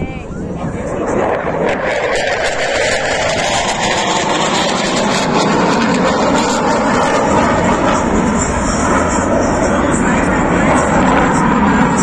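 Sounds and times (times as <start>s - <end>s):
aircraft engine: 0.0s - 12.0s.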